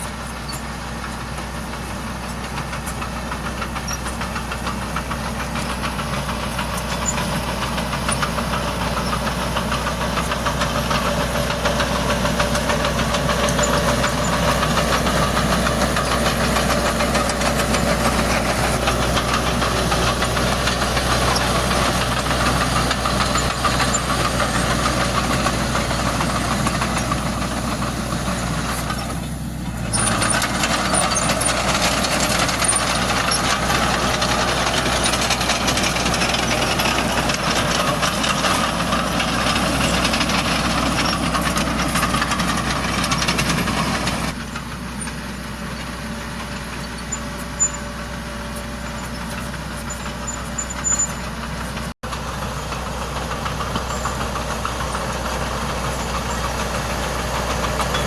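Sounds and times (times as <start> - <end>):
diesel earthmoving machinery: 0.0 - 58.0.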